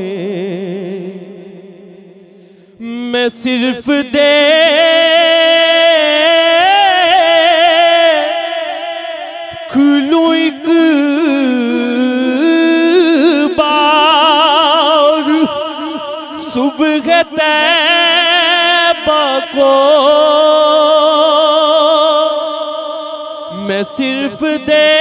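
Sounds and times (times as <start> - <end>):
man singing into a microphone: 0.0 - 25.0.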